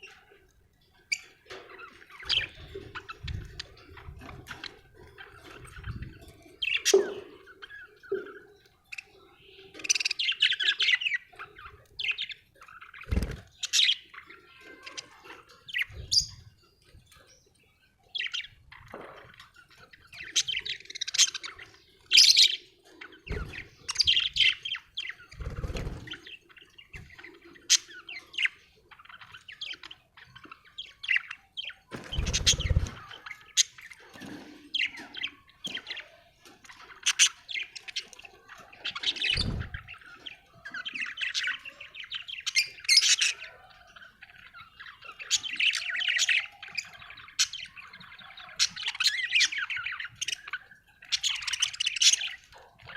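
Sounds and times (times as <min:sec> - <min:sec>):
budgerigars chirping: 0:01.1 - 0:17.2, 0:18.1 - 0:52.9.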